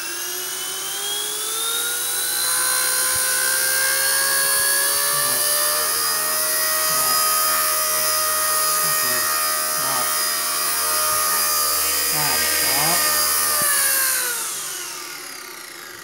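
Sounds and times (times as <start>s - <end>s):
toy helicopter motor whine: 0.0s - 16.0s.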